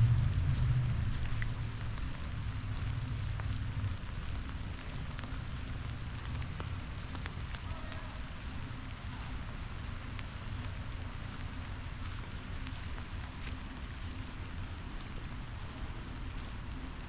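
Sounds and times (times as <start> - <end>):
light rain on leaves: 0.0 - 17.0
low steady rumble: 0.0 - 17.0
raindrops ticking: 0.0 - 17.0.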